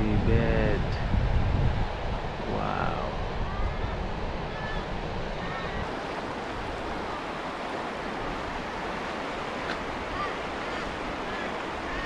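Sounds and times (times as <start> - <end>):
fast-flowing river rushing: 2.0 - 12.0.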